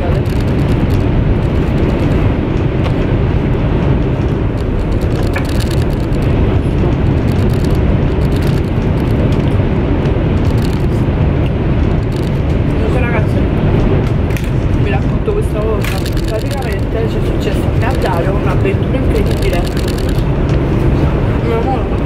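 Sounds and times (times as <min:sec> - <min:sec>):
train running low rumble: 0:00.0 - 0:22.0.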